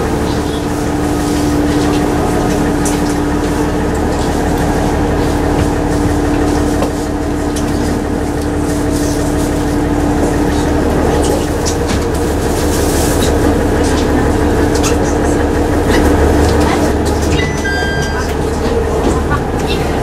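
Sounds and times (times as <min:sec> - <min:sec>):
diesel engine idling hum: 0:00.0 - 0:20.0.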